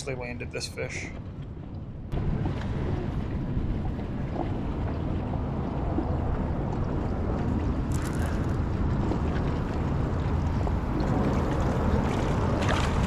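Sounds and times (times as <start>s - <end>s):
wind buffeting microphone: 1.2s - 13.0s
water gurgling against hull: 2.1s - 13.0s.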